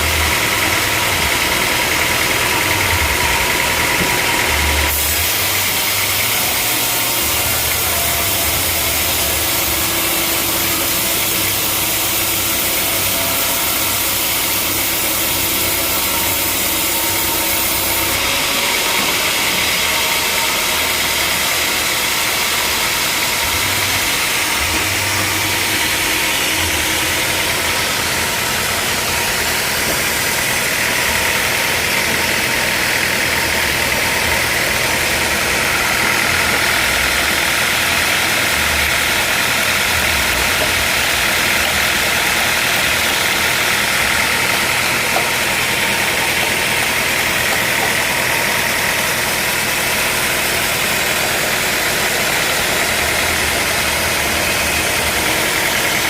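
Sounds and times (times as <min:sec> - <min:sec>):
engine hum: 0:00.0 - 0:56.0
hissing saw noise: 0:00.0 - 0:56.0.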